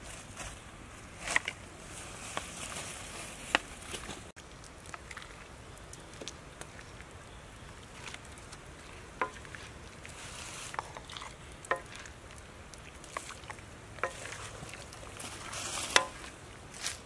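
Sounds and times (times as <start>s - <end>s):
soft steady hiss: 0.0s - 17.0s.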